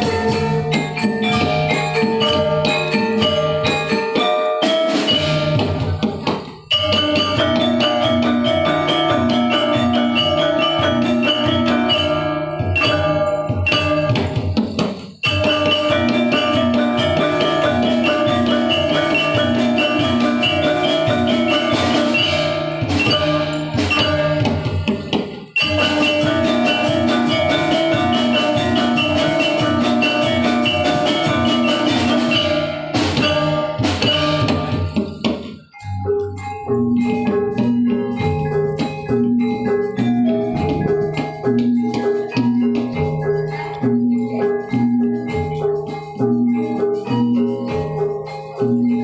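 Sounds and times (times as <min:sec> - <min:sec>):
gamelan music: 0:00.0 - 0:49.0.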